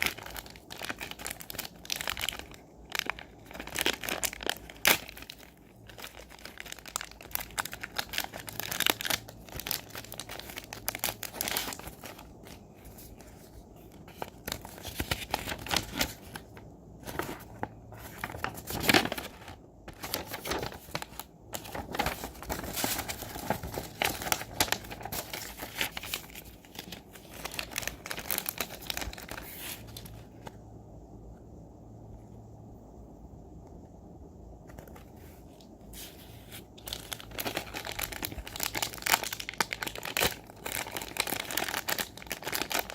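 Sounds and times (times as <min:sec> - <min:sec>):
packaging crinkling and rustling: 0:00.0 - 0:30.5, 0:34.8 - 0:42.9.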